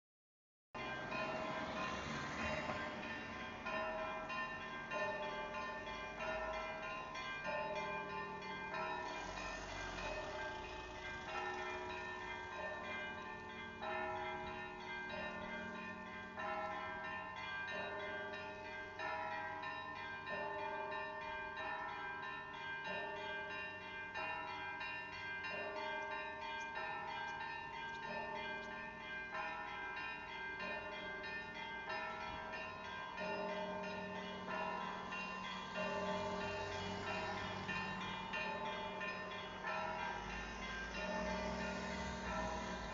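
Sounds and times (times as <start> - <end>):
large low bells: 0.8 - 42.9.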